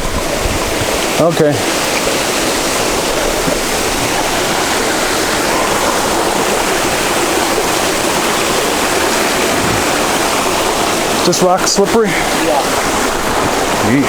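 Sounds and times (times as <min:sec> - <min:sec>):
stream and waterfall rushing: 0:00.0 - 0:14.0.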